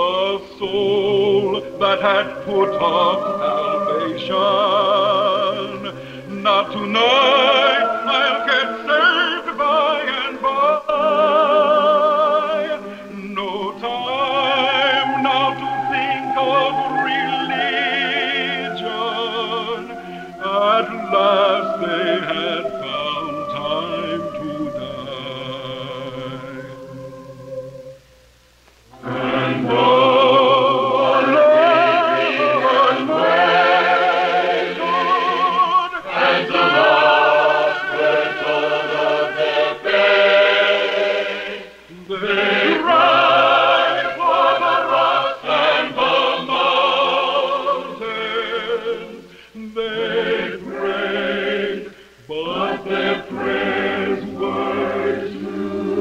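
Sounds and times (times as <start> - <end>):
mixed choir singing: 0.0 - 28.0, 28.9 - 56.0.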